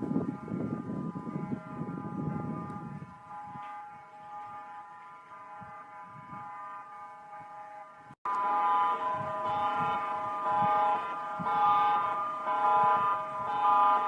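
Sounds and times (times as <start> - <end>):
electronic alarm blaring: 0.0 - 14.0.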